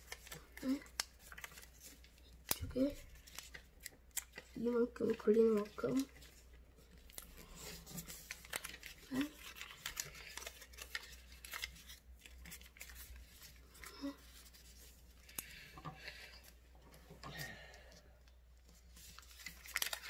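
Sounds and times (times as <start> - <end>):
paper rustling and crinkling: 0.0 - 17.2, 18.6 - 20.0.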